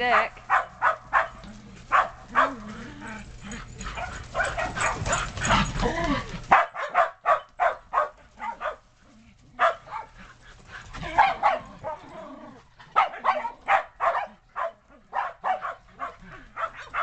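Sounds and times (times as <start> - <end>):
dogs barking: 0.0 - 12.2, 12.8 - 17.0.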